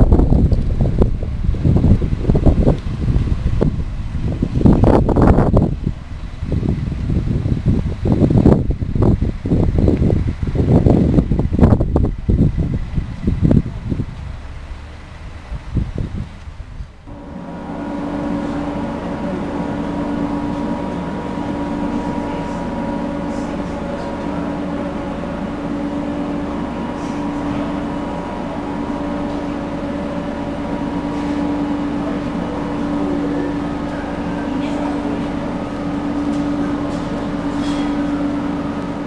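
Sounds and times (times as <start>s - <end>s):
train mechanical drone: 0.0s - 39.0s.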